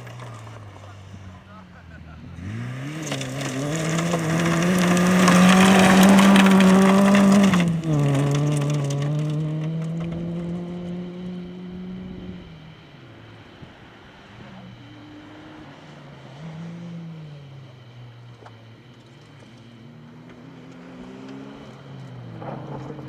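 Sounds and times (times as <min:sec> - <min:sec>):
gravel crunching under tyres: 0:00.0 - 0:23.0
rally car engine accelerating: 0:00.0 - 0:23.0.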